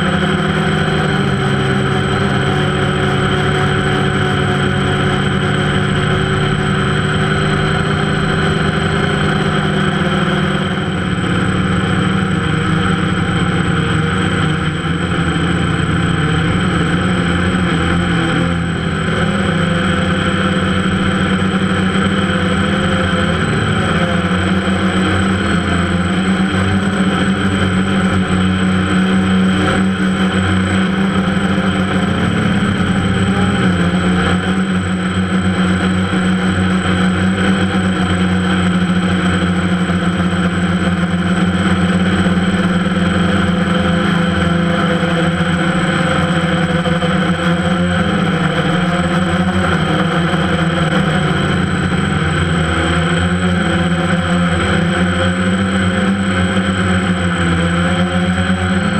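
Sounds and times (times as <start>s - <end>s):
drone propellers humming: 0.0s - 58.9s.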